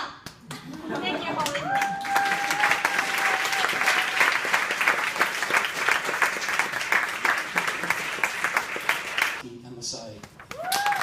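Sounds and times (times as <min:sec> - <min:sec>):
audience applauding: 0:00.5 - 0:09.4, 0:10.2 - 0:11.0.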